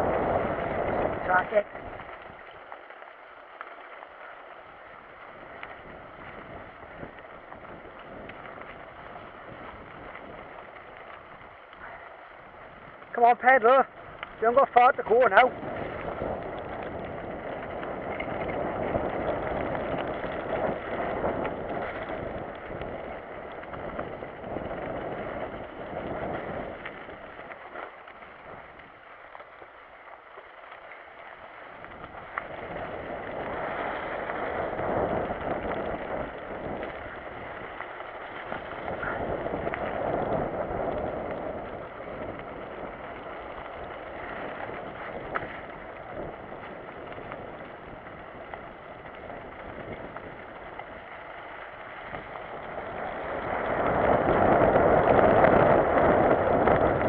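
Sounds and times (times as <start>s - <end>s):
wind on microphone: 0.0s - 2.6s, 5.0s - 29.0s, 31.7s - 51.2s, 51.8s - 57.0s
bike tyres on dirt trail: 0.0s - 57.0s.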